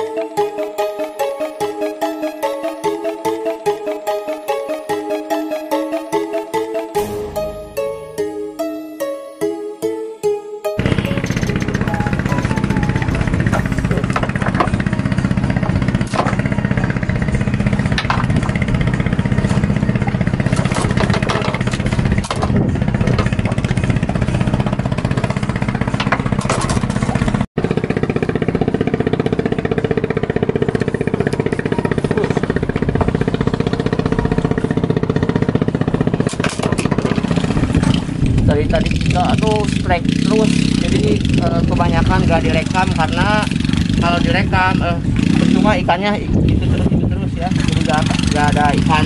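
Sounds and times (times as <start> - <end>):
engine drone: 0.0 - 9.8, 10.6 - 49.0.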